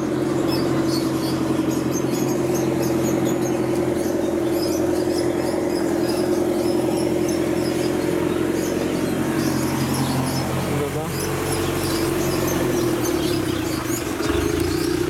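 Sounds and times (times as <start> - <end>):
loud mechanical hum: 0.0 - 15.0.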